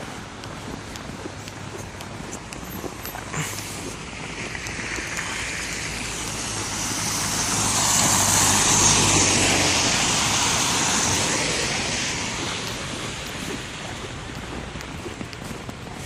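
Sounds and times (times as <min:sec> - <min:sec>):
tyres hissing through slush: 0:01.3 - 0:16.0.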